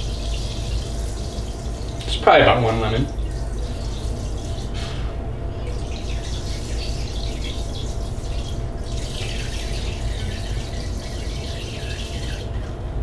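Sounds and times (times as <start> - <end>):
juice dripping into water: 0.0 - 12.9
steady low hum: 0.0 - 13.0.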